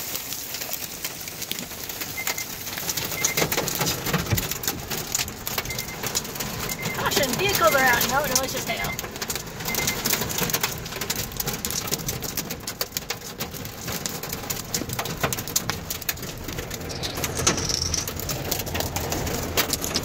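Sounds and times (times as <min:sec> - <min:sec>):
rain and hail on car roof: 0:00.0 - 0:20.0.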